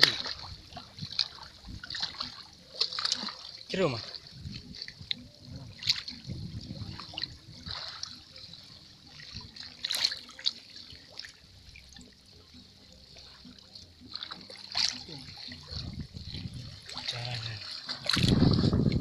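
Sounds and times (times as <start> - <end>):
person wading through water: 0.0 - 19.0.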